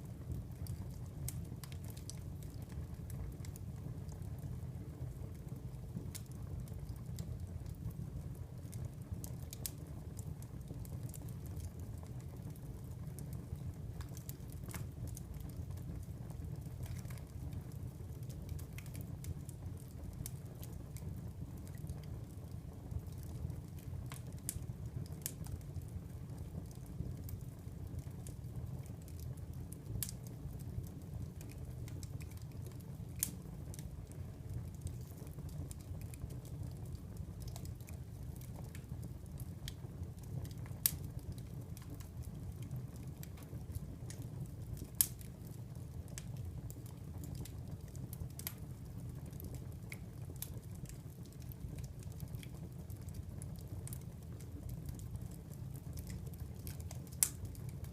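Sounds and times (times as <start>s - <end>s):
fire crackling and popping: 0.0s - 57.9s
low rumble of flames: 0.0s - 57.9s.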